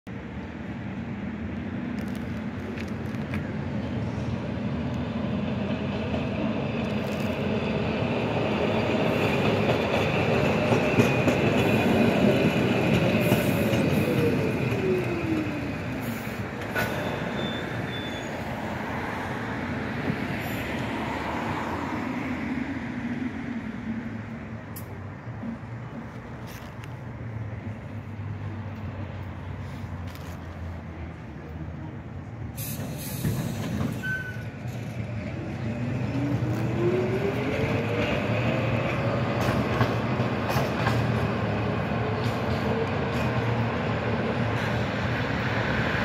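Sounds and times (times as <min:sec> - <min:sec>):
tram wheels rumbling on rails: 0:00.2 - 0:46.0.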